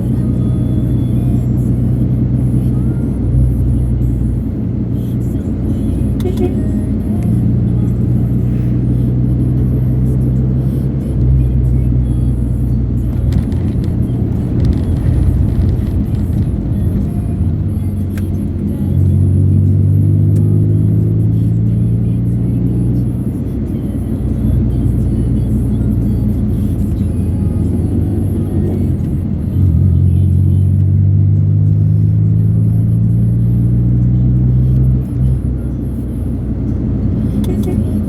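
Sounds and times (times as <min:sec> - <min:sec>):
music on car stereo: 0:00.0 - 0:38.0
road rumble: 0:00.0 - 0:38.0.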